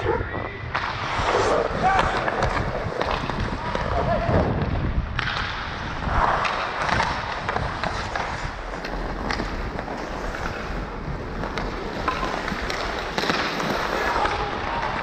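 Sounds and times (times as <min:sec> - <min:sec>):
skate blades scraping on ice: 0:00.8 - 0:15.0.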